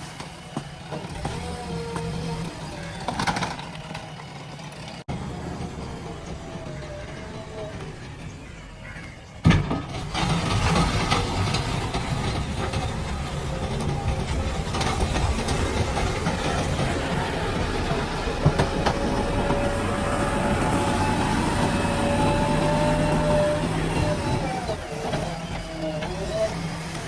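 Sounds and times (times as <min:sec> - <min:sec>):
diesel engine under load: 0:00.0 - 0:27.0.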